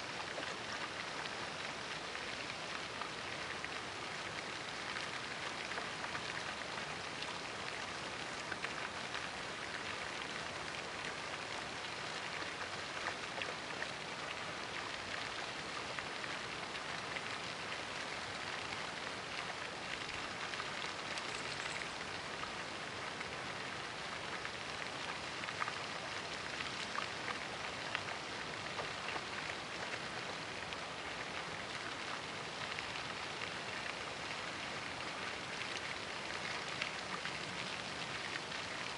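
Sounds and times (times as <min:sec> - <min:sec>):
fountain spray splashing on water: 0:00.0 - 0:38.9.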